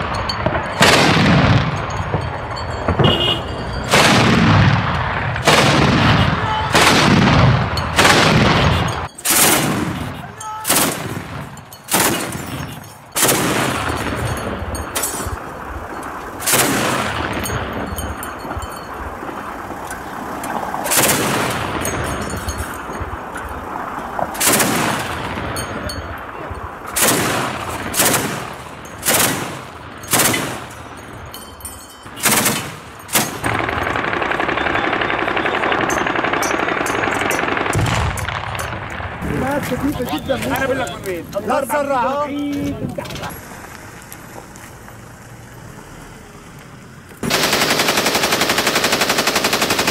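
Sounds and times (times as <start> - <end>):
gunshots with rolling echo: 0.0 - 31.4, 32.1 - 42.0, 47.2 - 49.9.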